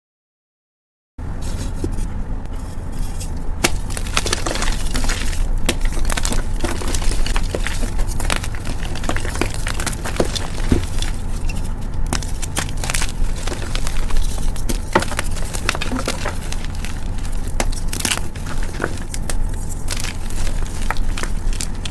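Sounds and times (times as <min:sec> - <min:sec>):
low steady hum: 0:01.2 - 0:21.9
chalk crunching: 0:01.4 - 0:21.9.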